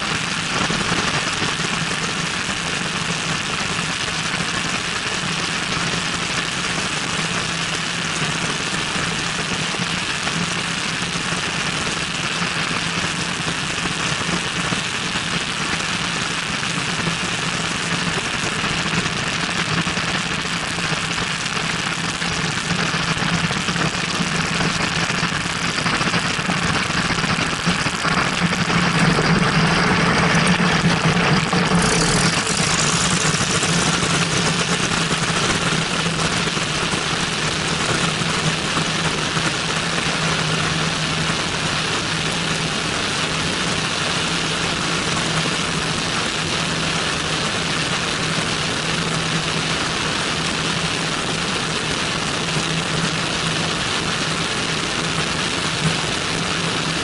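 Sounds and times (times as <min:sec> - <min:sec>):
airplane engine and propeller: 0:00.0 - 0:57.0
wind rush on microphone: 0:00.0 - 0:57.0.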